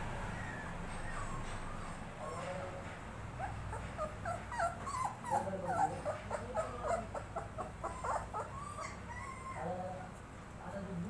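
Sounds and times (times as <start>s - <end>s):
puppies crying: 0.0s - 10.2s.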